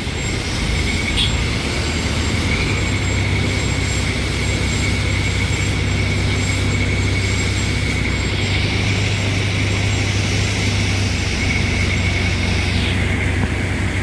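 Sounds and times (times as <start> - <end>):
heavy diesel engine droning: 0.0 - 14.0
thin high whine: 0.0 - 14.0.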